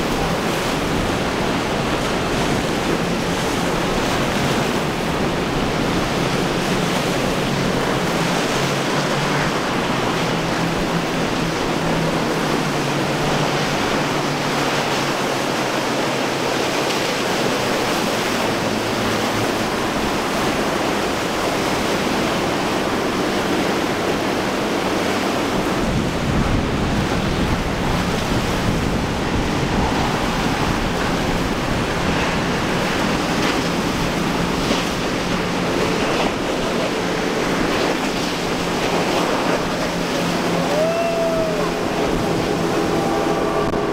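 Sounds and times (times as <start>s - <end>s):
faint outboard engines drone: 0.0s - 43.9s
rough surf breaking: 0.0s - 43.9s
wind buffeting microphone: 0.0s - 43.9s.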